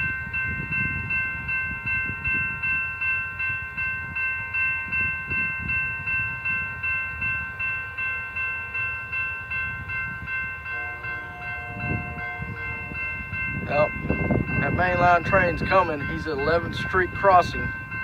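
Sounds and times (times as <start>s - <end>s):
low steady tone: 0.0s - 18.0s
railroad crossing bell ringing: 0.0s - 18.0s.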